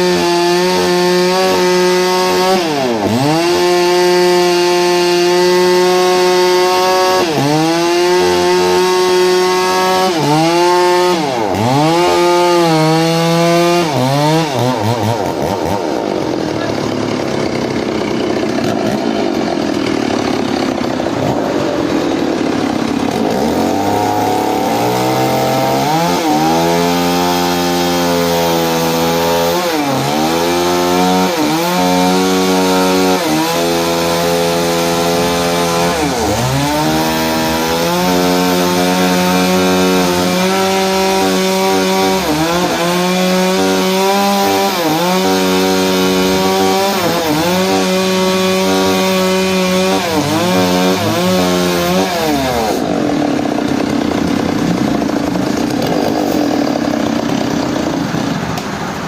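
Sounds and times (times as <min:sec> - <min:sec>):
engine-driven saw cutting log: 0:00.0 - 0:59.0.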